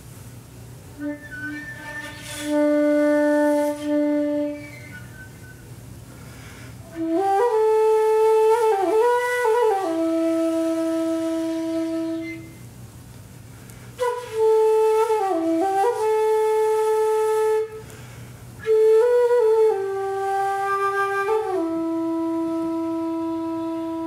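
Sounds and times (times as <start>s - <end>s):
bamboo flute slow melody: 0.9s - 5.8s, 6.8s - 12.7s, 14.0s - 24.0s.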